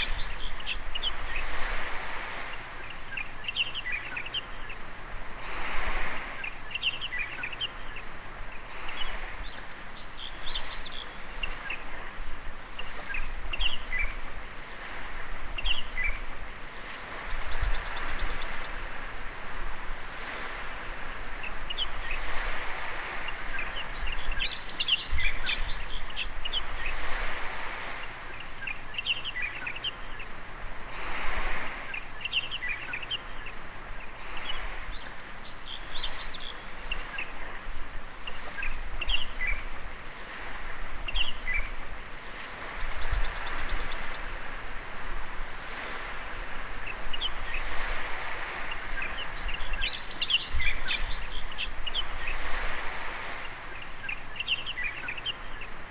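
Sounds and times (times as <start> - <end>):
birds chirping: 0.0 - 55.9
small waves washing on beach: 0.0 - 55.9.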